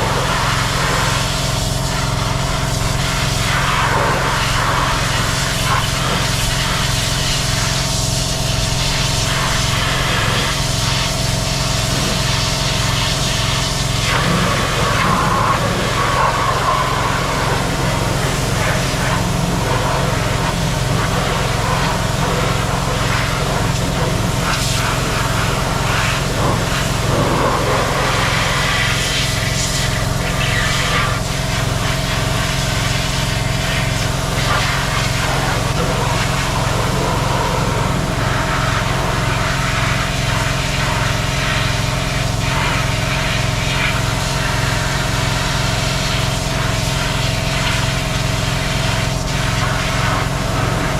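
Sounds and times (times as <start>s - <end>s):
engine running with pulsing hum: 0.0s - 50.9s.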